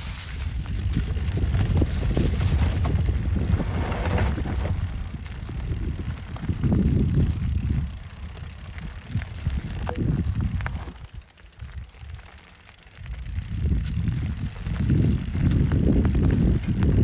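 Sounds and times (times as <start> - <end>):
mountain bike rumbling over trail: 0.0 - 17.0.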